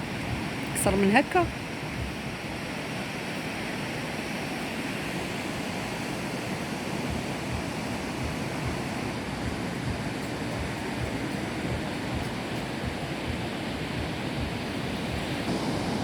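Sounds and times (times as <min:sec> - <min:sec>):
sea surf rushing: 0:00.0 - 0:16.0
wind buffeting microphone: 0:00.0 - 0:16.0.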